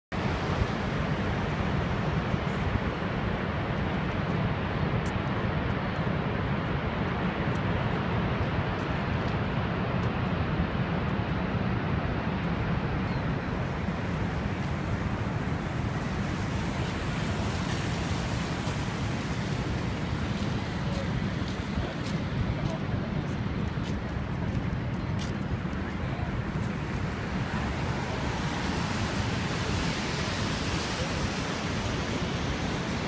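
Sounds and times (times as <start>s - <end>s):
waterfall roaring: 0.2s - 33.0s.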